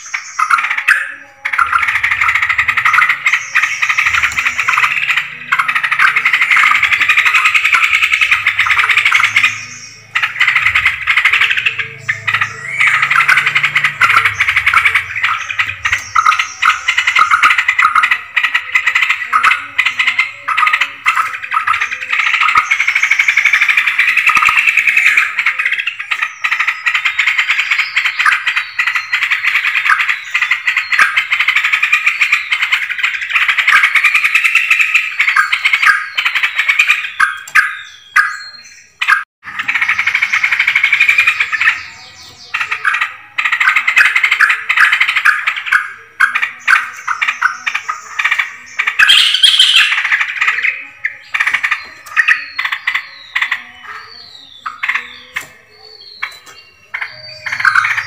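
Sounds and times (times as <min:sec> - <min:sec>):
bulbuls bubbling chatter: 0:00.0 - 0:58.0.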